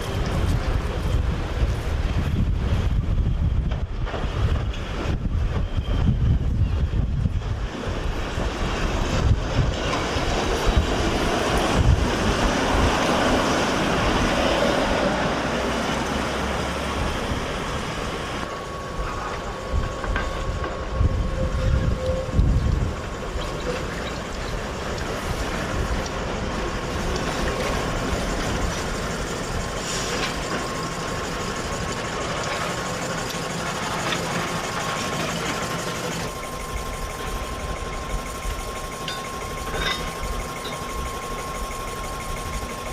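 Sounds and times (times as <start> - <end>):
steady thin whine: 0.0 - 42.9.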